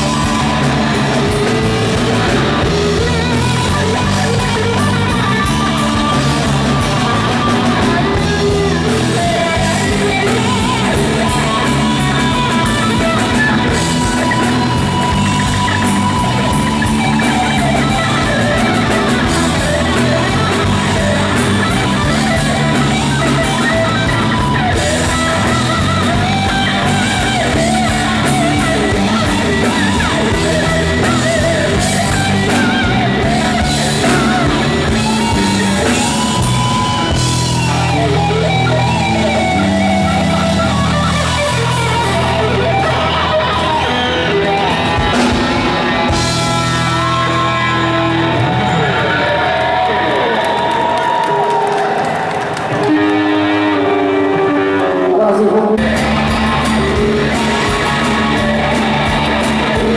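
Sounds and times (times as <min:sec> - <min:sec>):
bass and drums: 0:00.0 - 0:59.9
electric guitar solo: 0:00.0 - 0:59.9.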